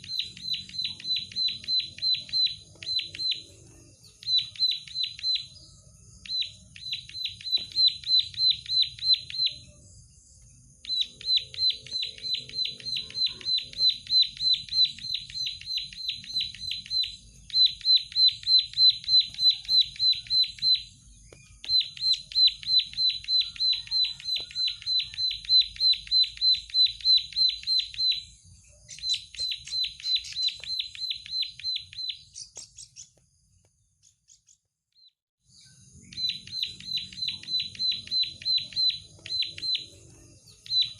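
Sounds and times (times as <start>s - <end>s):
bird singing repeated sharp notes: 0.0s - 40.9s.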